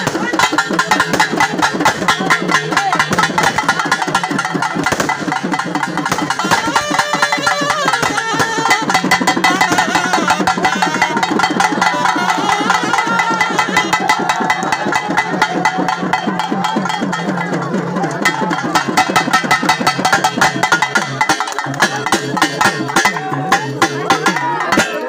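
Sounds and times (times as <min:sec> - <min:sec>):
rapid drumming: 0:00.0 - 0:25.0.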